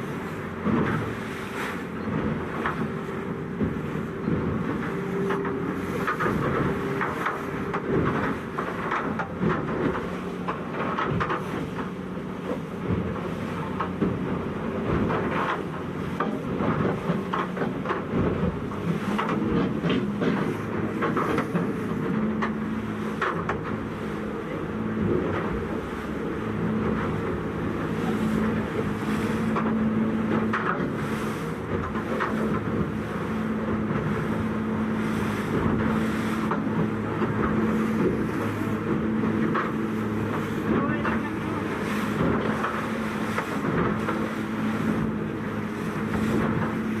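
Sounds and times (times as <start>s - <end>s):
hull slapping against waves: 0.0s - 47.0s
motorboat engine running: 0.0s - 47.0s
wind buffeting microphone: 0.0s - 47.0s.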